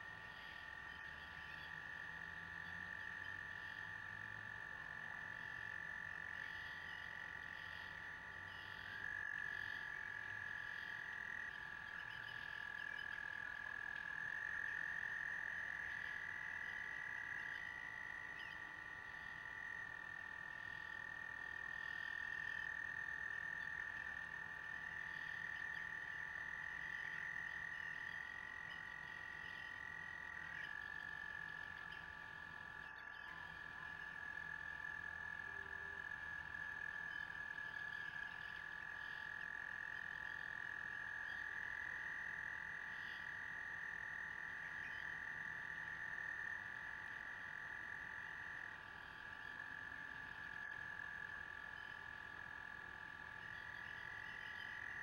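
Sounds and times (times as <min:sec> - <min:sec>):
faint pulsing frog chorus: 0:00.0 - 0:55.0
frogs trilling: 0:00.0 - 0:55.0.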